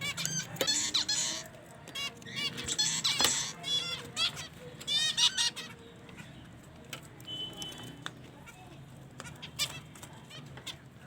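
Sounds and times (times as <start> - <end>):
bird calls and clicks: 0.0 - 11.0.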